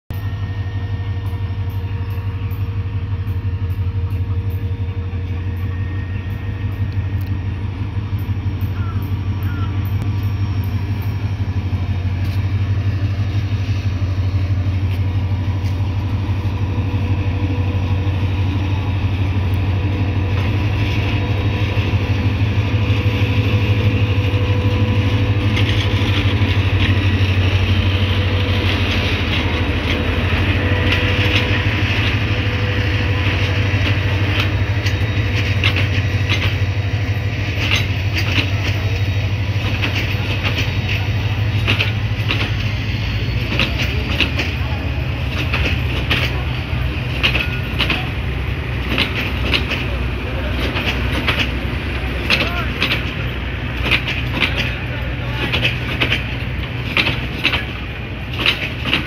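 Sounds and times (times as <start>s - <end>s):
diesel locomotive engine drone: 0.0s - 59.0s
train carriages rolling on track: 0.1s - 59.0s.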